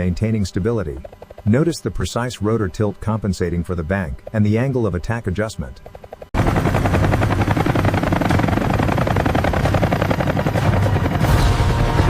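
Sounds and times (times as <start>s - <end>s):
helicopter rotor blades beating: 0.0s - 12.0s.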